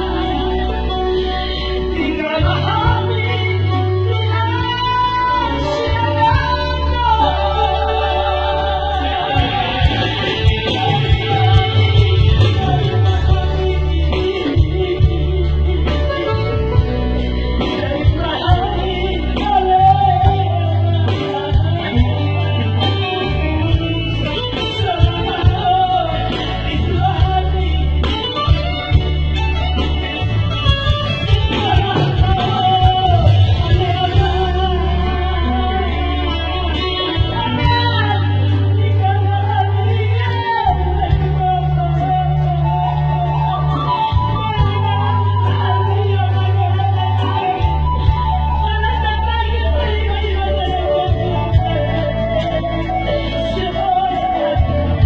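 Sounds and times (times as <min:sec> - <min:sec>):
guitar: 0:00.0 - 0:55.0
heavy bass: 0:00.0 - 0:55.0
person singing: 0:00.0 - 0:55.0.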